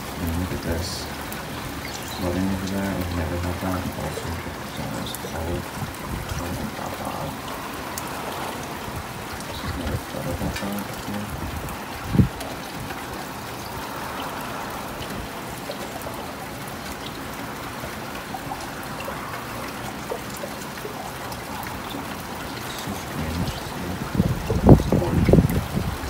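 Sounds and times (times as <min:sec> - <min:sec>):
water dripping: 0:00.0 - 0:26.0
water trickling: 0:00.0 - 0:26.0.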